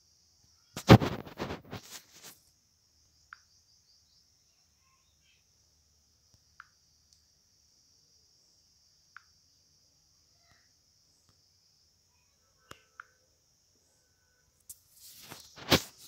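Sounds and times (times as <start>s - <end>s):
faint high hiss: 0.0s - 3.4s, 4.0s - 16.0s.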